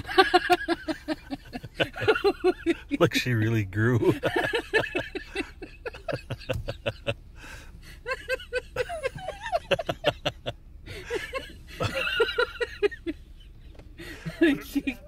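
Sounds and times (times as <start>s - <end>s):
woman laughing: 0.0s - 3.2s, 4.0s - 7.1s, 8.0s - 13.2s, 14.1s - 15.0s.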